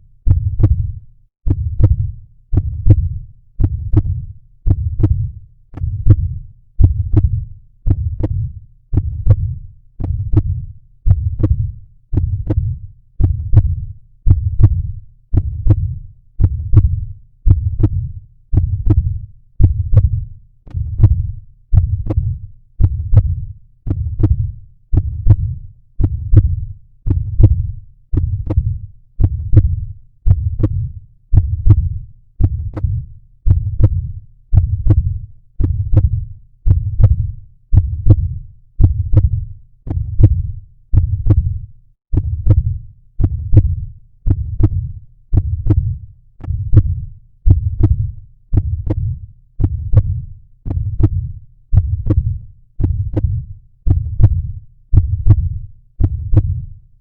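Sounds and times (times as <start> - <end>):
heartbeat thumping: 0.3 - 56.8.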